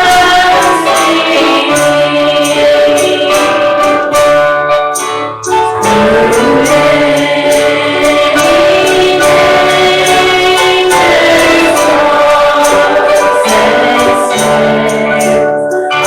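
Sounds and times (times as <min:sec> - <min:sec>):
choir singing a gospel hymn: 0:00.0 - 0:04.2, 0:05.5 - 0:16.0
tambourine shaking: 0:00.0 - 0:16.0.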